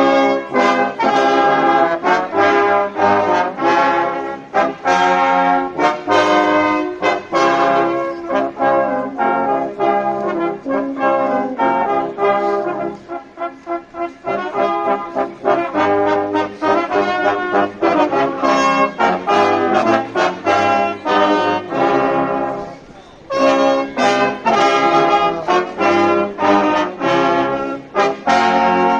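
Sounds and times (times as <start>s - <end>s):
brass band playing: 0.0s - 28.9s.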